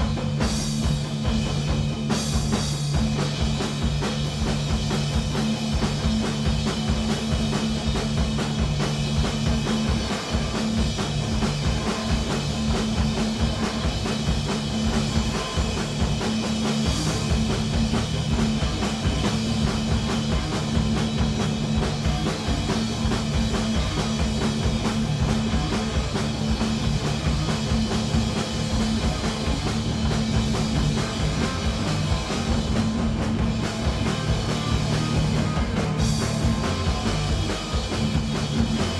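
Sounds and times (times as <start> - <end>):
punk rock band playing live: 0.0 - 38.9.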